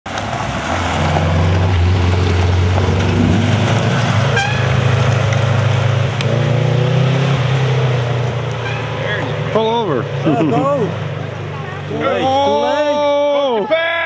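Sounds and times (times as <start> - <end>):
rally car engines droning: 0.1 - 14.0.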